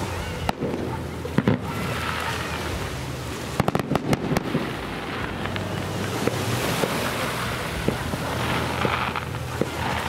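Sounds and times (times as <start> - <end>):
fireworks bangs and crackles: 0.0 - 10.0
steady background noise: 0.0 - 10.0
faint fireworks pops: 0.1 - 2.9, 3.5 - 10.0.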